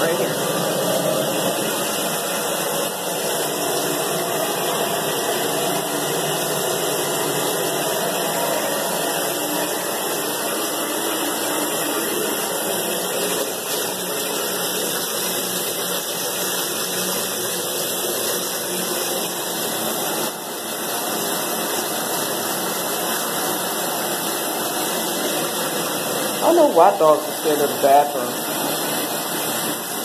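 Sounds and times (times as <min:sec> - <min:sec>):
water running from bathtub tap: 0:00.0 - 0:30.0.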